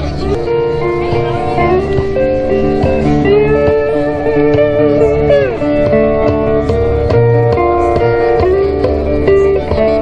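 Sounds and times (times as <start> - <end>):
live band music led by guitar: 0.0 - 10.0.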